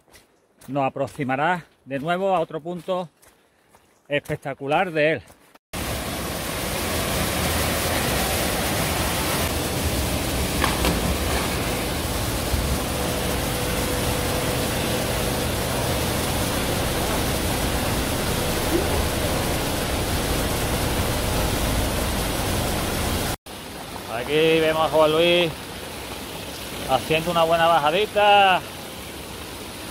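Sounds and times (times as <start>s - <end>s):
water cascade rushing: 5.8s - 29.9s.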